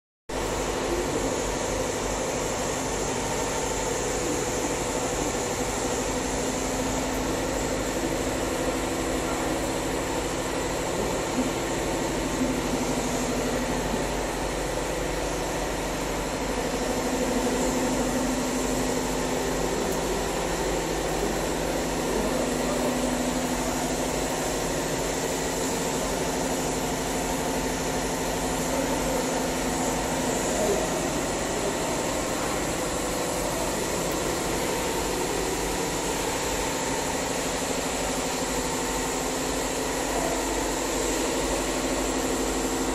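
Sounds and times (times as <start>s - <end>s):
constant noisy background: 0.3s - 42.9s
steady machine hum: 0.3s - 42.9s.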